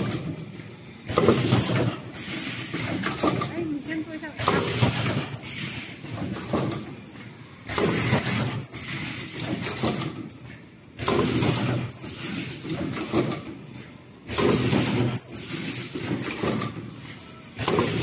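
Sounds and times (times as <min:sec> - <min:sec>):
mechanical and air noise bursts: 0:00.0 - 0:18.0.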